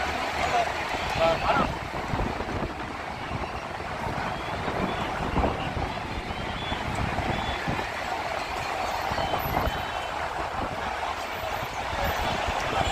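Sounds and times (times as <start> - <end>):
traffic engines rumbling: 0.0 - 12.9.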